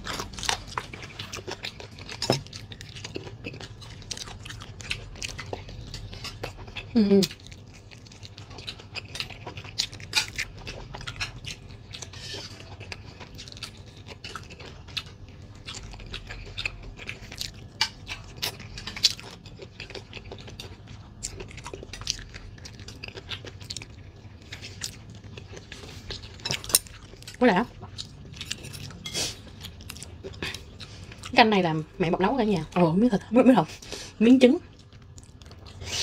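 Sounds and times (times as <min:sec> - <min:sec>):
gnawing and chewing meat: 0:00.0 - 0:36.0.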